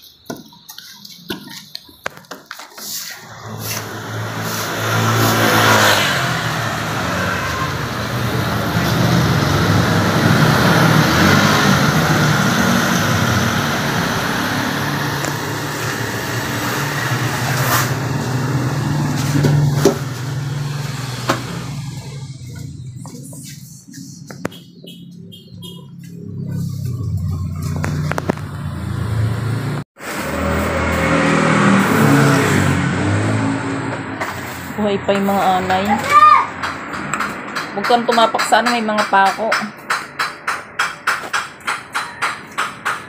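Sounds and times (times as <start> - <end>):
vehicle engine running: 3.2 - 39.3.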